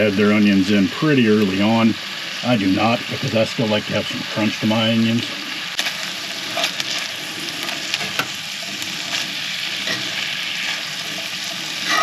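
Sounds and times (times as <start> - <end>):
sausage and onions sizzling in pan: 0.0 - 12.0.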